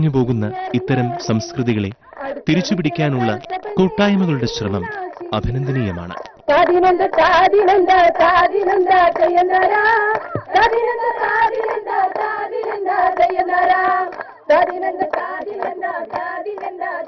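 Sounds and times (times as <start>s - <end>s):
children singing: 0.2s - 17.0s.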